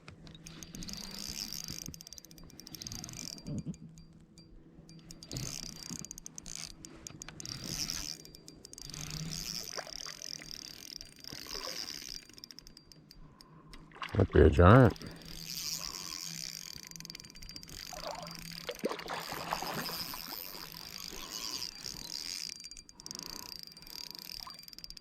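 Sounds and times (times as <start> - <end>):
fishing reel ticking and whirring: 0.1 - 14.0, 14.8 - 25.0.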